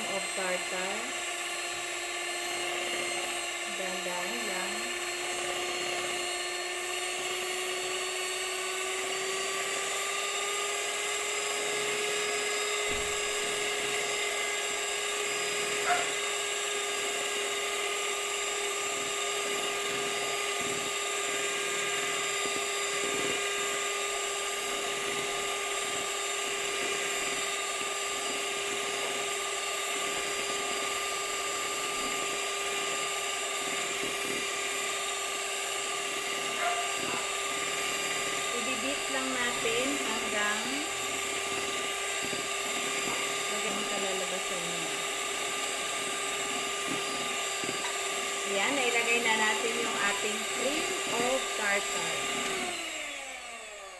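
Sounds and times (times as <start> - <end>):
electric hand mixer whining: 0.0 - 53.9.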